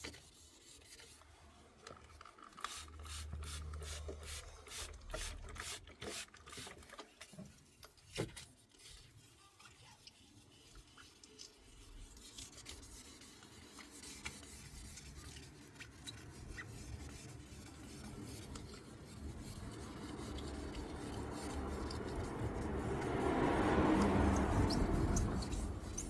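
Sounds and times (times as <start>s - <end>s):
hand rubbing car paintwork: 0.0s - 26.0s.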